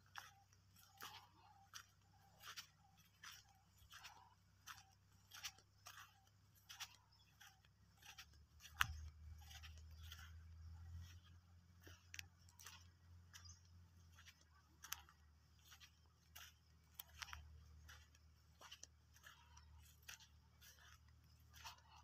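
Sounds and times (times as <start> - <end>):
footsteps on dry soil: 0.0 - 22.0.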